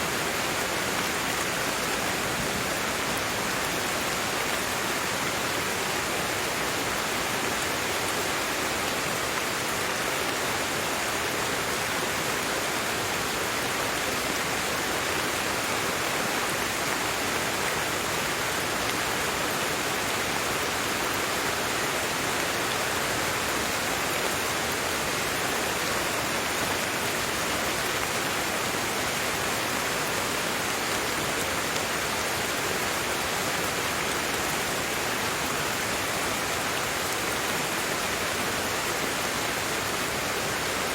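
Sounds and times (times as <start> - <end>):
heavy rainfall: 0.0 - 40.9.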